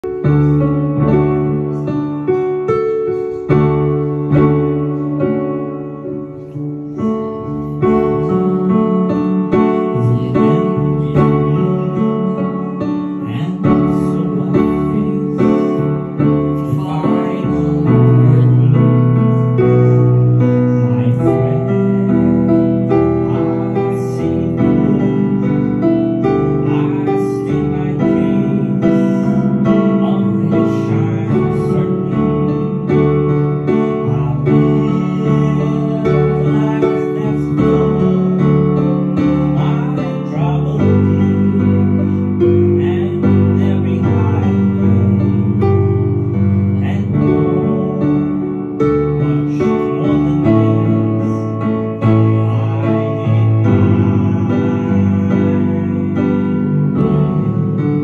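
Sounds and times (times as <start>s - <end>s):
digital piano playing: 0.0s - 58.0s.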